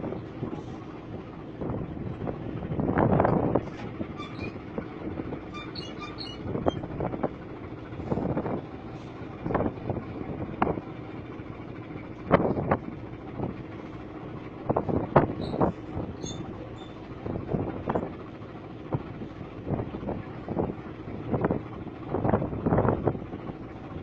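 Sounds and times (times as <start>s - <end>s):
rushing wind or water bursts: 0.0s - 24.0s
ship engine humming: 0.0s - 24.0s.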